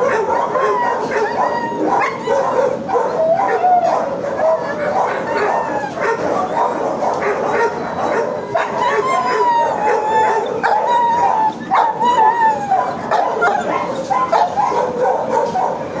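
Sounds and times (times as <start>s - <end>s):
dog howling: 0.0s - 16.0s
dogs barking: 0.0s - 16.0s.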